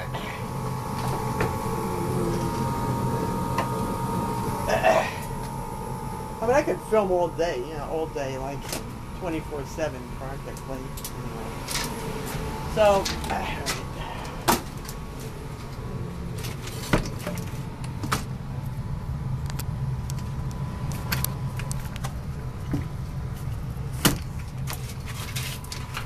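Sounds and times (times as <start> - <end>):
furnace humming: 0.0 - 26.0.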